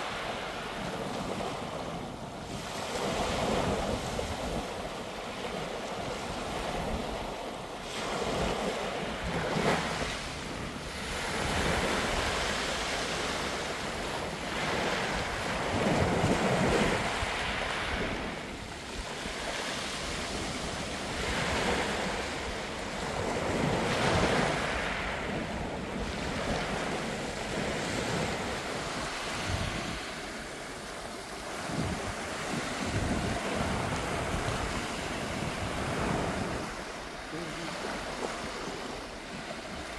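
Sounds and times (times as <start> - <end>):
waves breaking on shingle beach: 0.0 - 39.9
wind buffeting microphone: 0.0 - 39.9.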